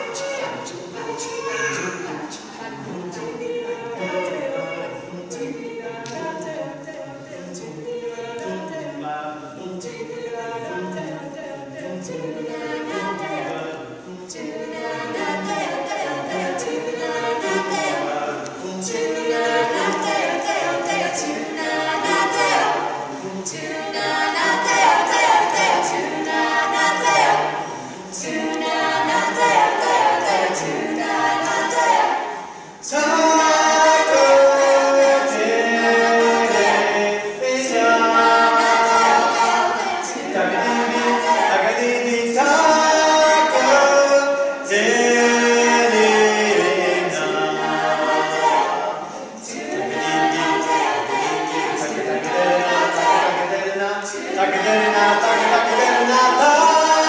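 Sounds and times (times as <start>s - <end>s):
a cappella harmony singing: 0.0s - 57.0s.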